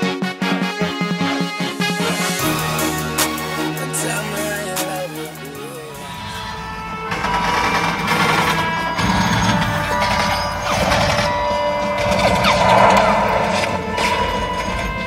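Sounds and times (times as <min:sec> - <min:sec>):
action film music with crashes: 0:00.0 - 0:15.0.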